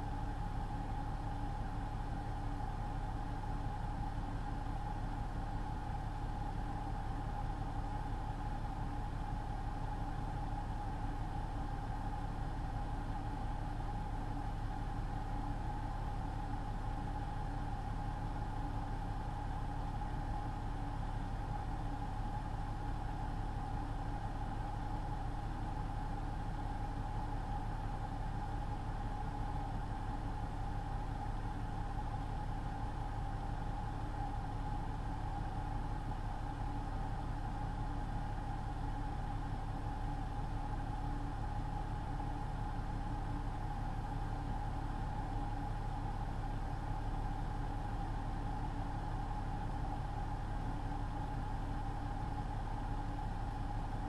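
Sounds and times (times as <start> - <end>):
constant high hum: 0.0 - 54.0.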